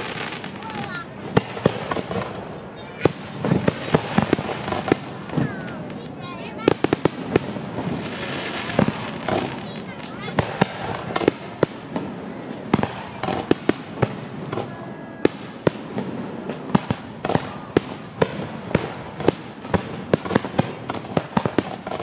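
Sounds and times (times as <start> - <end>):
crackling hiss: 0.0 - 22.0
fireworks bangs: 0.0 - 22.0.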